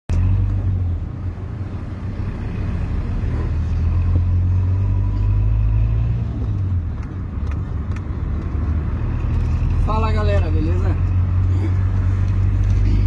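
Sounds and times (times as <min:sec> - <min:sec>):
road noise: 0:00.1 - 0:13.0
vehicle engine rumble: 0:00.1 - 0:13.0.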